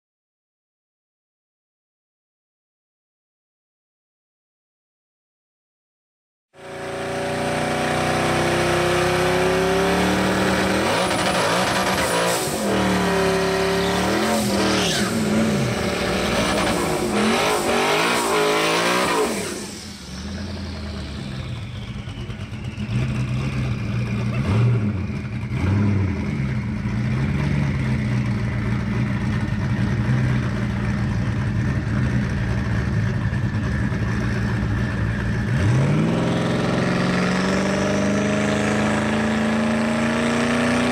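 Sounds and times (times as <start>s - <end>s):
car engine revving and idling: 6.6s - 40.9s.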